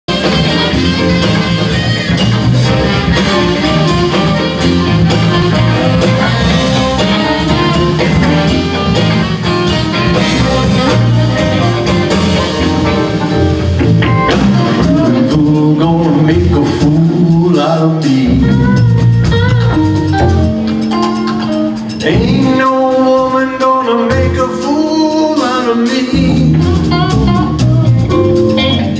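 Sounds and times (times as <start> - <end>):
saxophone: 0.1 - 16.6, 18.3 - 23.4, 26.2 - 28.9
bass guitar: 0.1 - 28.9
drum kit: 0.1 - 28.9
electric guitars: 0.1 - 28.9
keyboard: 0.1 - 28.9.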